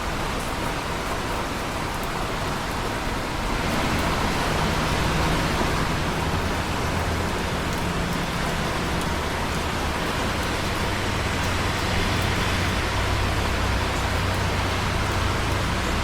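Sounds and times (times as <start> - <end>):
rain hiss: 0.0 - 16.0
raindrops ticking: 0.0 - 16.0.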